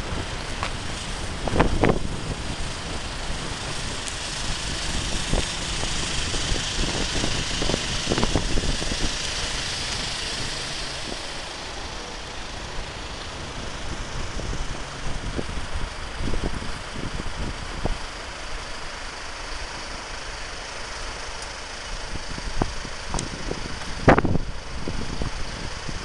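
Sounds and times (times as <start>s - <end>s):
wind buffeting microphone: 0.0s - 20.0s, 21.5s - 26.0s.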